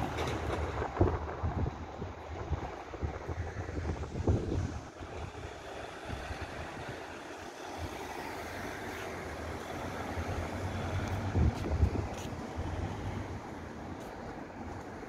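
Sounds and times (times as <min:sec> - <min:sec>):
wind buffeting microphone: 0:00.0 - 0:15.0
cars driving: 0:02.1 - 0:15.0.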